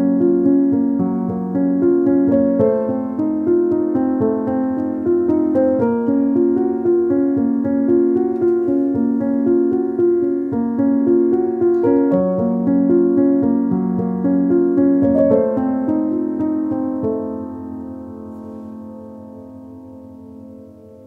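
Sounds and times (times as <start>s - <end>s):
keyboard chords: 0.0s - 21.0s.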